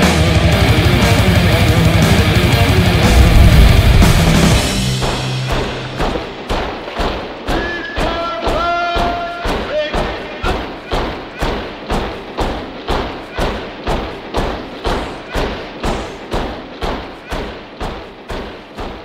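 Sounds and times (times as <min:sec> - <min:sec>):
marching boots stamping: 0:02.3 - 0:19.0.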